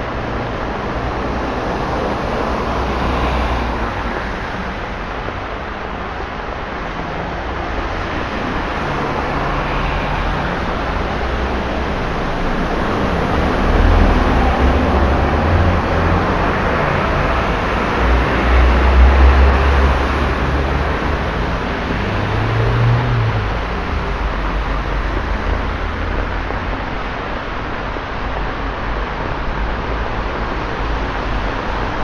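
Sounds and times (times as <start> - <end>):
low rumble of engines: 0.0 - 32.0.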